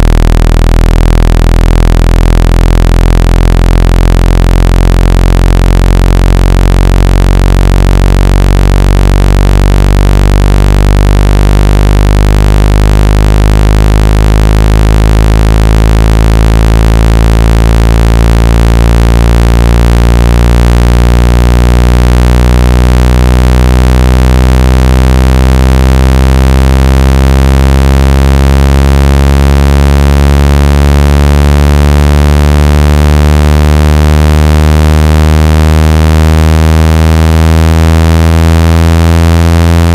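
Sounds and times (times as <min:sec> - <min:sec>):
low buzzing tone rising in pitch: 0:00.0 - 0:39.9.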